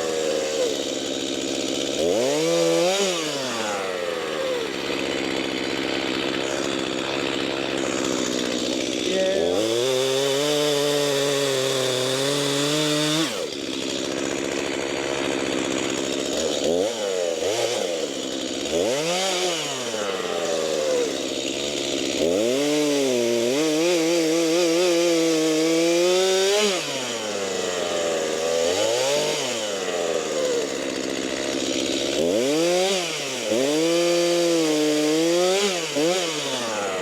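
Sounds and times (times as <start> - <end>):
chainsaw revving and idling: 0.0 - 37.0.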